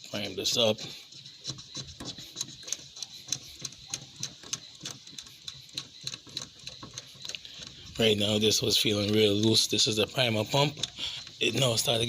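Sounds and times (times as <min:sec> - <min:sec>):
hand primer pump clicking and squishing: 0:00.3 - 0:12.0.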